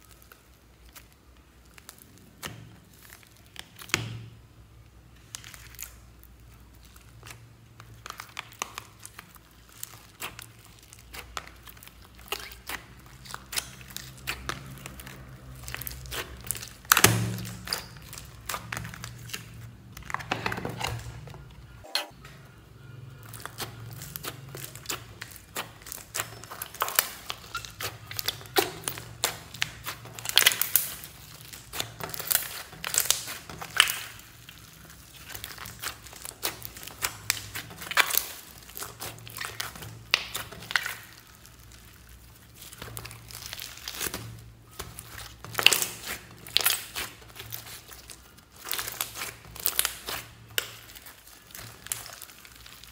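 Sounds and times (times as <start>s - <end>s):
slime clicking and popping: 6.8s - 20.2s, 23.4s - 41.8s, 42.5s - 52.9s.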